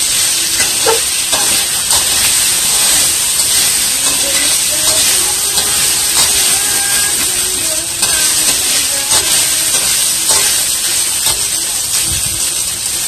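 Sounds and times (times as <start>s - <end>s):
ham sizzling in a wok: 0.0s - 13.0s
spatula scraping a pan: 0.1s - 12.5s.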